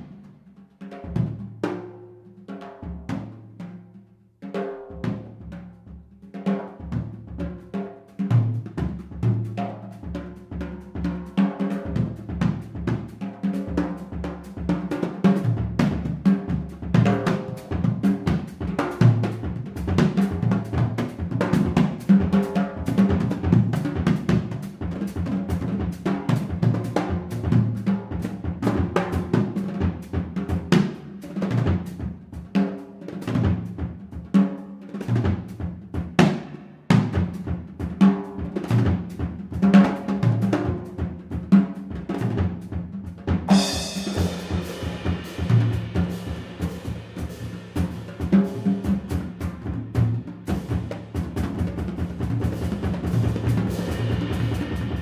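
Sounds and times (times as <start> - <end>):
jazz drum kit solo: 0.0 - 55.0.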